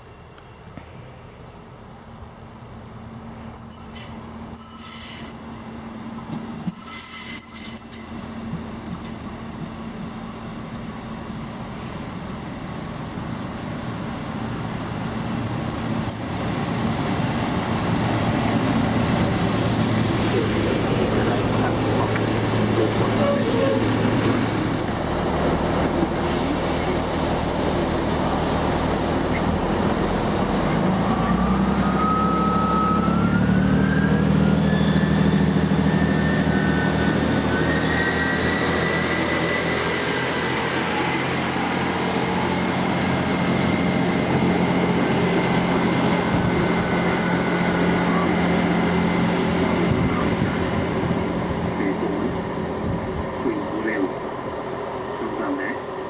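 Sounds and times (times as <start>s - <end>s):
diesel train engine: 0.0s - 56.0s
rising train whine: 0.0s - 56.0s.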